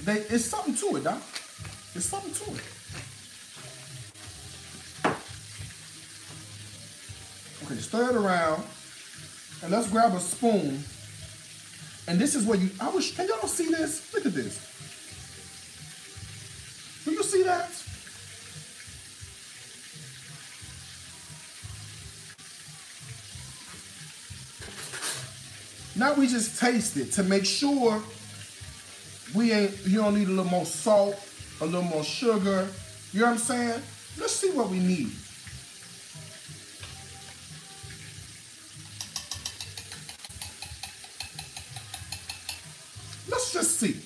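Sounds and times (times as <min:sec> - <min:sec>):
fish sizzling in hot oil: 0:00.0 - 0:44.0.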